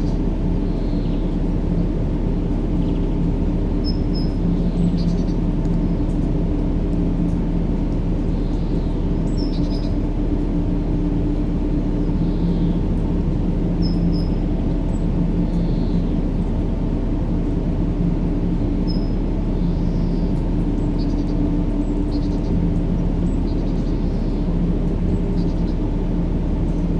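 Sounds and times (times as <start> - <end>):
deep droning white noise: 0.0 - 26.9.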